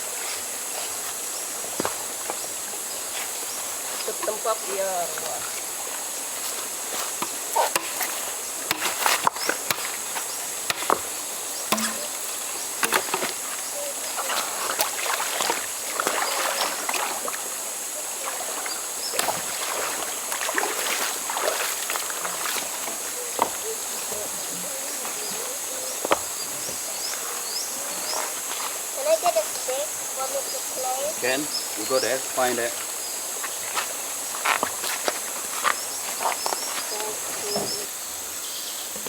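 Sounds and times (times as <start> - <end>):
river water splashing: 0.0 - 37.9
insects droning: 0.0 - 39.0.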